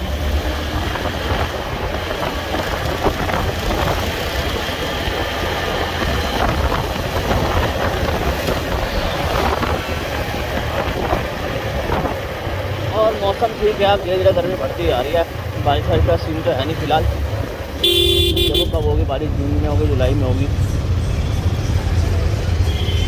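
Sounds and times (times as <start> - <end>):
motorcycle engine cruising: 0.0 - 22.9
road and wind noise: 0.0 - 23.0.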